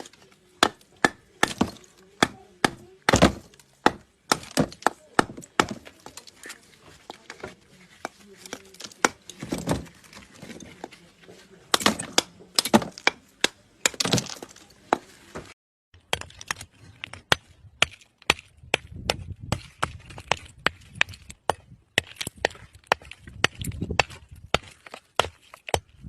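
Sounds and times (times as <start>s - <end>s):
hammer breaking clay lumps: 0.0s - 10.3s, 11.7s - 15.1s, 16.0s - 26.0s.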